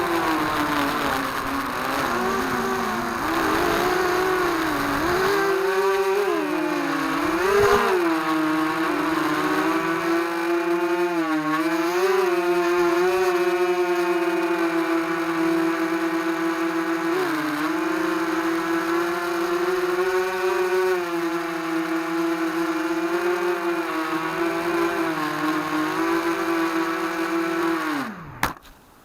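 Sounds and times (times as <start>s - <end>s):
quadcopter motors whining: 0.0s - 28.6s.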